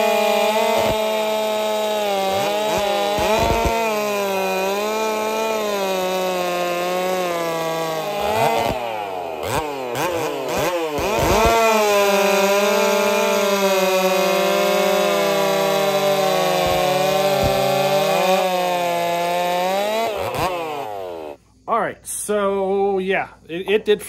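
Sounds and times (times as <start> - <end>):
chainsaw cutting log: 0.0 - 21.4.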